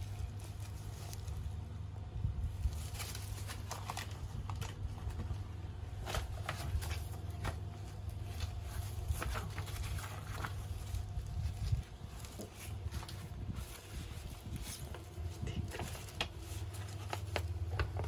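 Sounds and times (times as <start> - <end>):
plastic gloves and paper crinkling: 0.0 - 18.0
steady low hum: 0.0 - 18.0.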